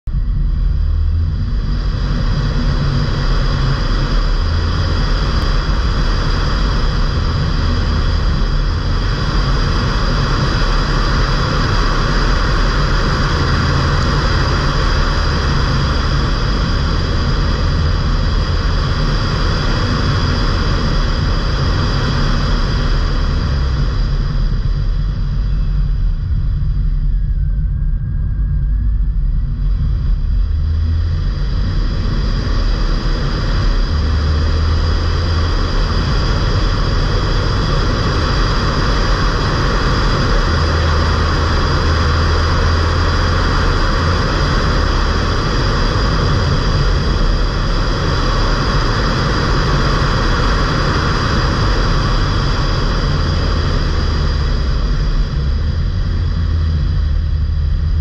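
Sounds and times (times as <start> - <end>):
car engine drone: 0.0 - 58.0
road and wind noise: 0.0 - 58.0.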